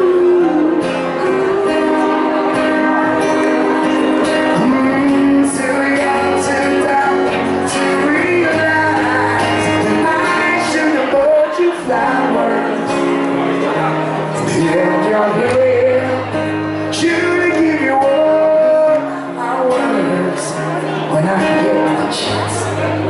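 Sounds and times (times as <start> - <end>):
instrumental backing music: 0.0 - 23.0
man singing pop ballad: 0.0 - 23.0.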